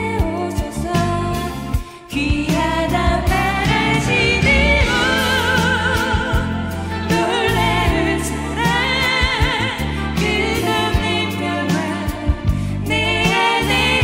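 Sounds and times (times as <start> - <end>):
instrumental accompaniment with beat: 0.0 - 14.0
two women singing duet: 0.0 - 14.0.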